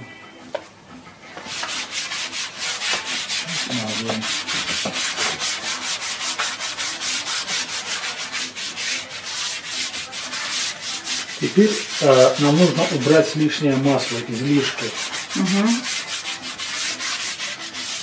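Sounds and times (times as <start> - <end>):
brush scrubbing canvas: 1.4 - 18.0.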